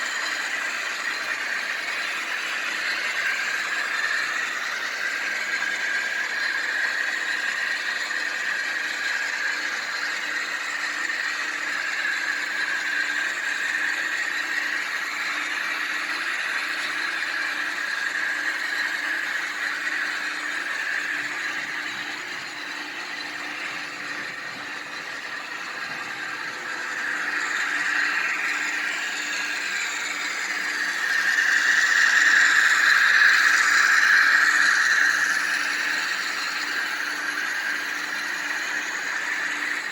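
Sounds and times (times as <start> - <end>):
model train running: 0.0 - 39.9.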